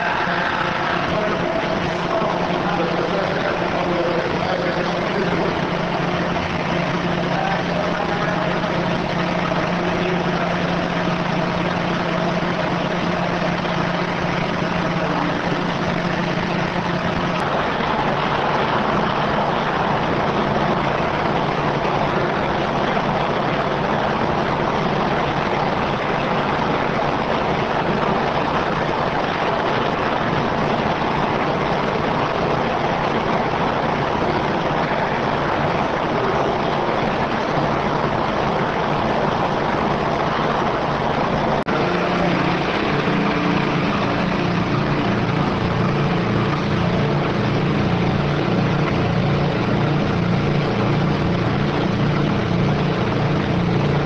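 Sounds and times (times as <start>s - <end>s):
low steady hum: 0.0s - 54.0s
machinery rushing noise: 0.0s - 54.0s.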